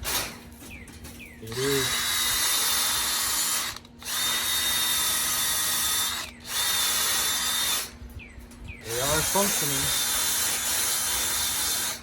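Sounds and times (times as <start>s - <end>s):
power tool motor whining: 1.5s - 8.0s, 8.8s - 12.0s.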